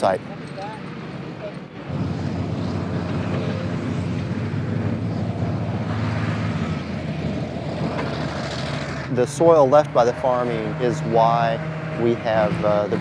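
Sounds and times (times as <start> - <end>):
heavy diesel engine droning: 0.0 - 13.0.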